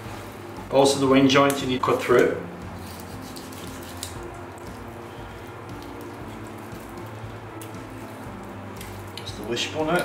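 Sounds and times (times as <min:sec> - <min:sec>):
low kitchen hum: 0:00.0 - 0:10.0.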